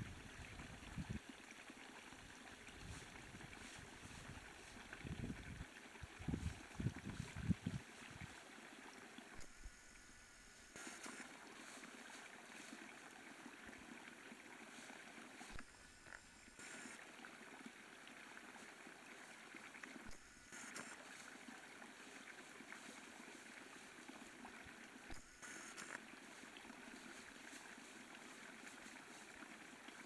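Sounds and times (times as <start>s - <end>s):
faint outdoor hiss: 0.0s - 30.0s.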